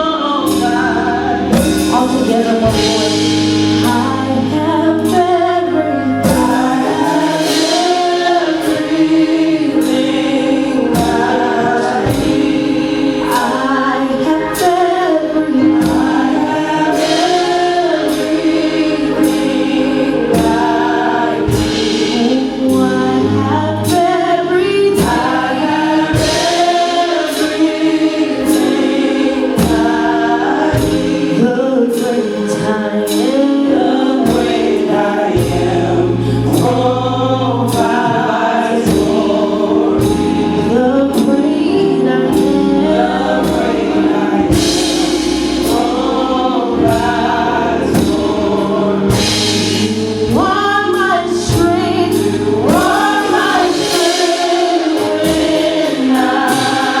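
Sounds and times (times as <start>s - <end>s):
band with bass and drums: 0.0s - 57.0s
group of voices singing: 0.0s - 57.0s.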